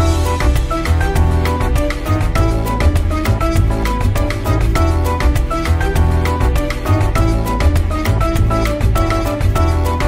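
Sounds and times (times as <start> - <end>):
background music with strong bass: 0.0 - 10.0.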